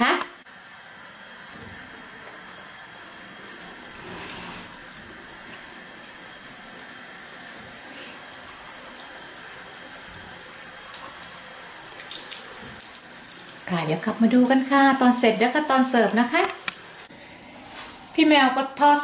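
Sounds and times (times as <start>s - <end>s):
deep-frying sizzle in hot oil: 0.0s - 19.0s.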